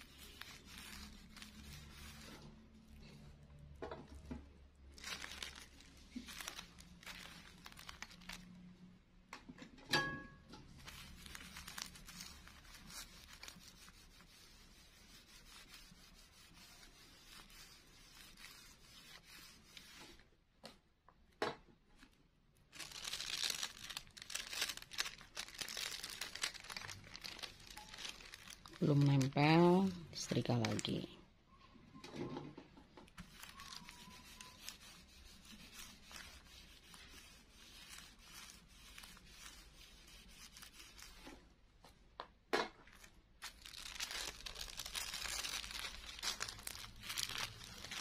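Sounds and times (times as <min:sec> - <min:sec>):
plastic sheets crinkling: 0:00.0 - 0:03.4, 0:04.1 - 0:08.8, 0:10.7 - 0:20.2, 0:22.0 - 0:31.1, 0:33.1 - 0:41.5, 0:42.8 - 0:48.0.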